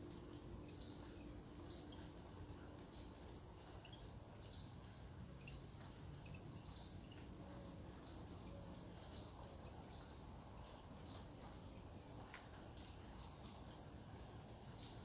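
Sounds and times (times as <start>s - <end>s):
low steady hum: 0.0s - 15.0s
bird chirping: 0.6s - 13.7s.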